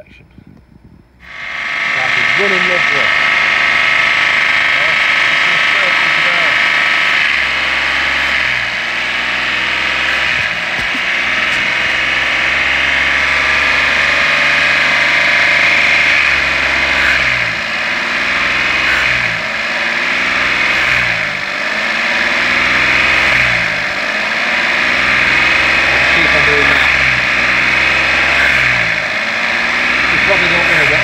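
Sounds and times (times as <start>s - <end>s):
car engine idling: 1.0s - 31.0s.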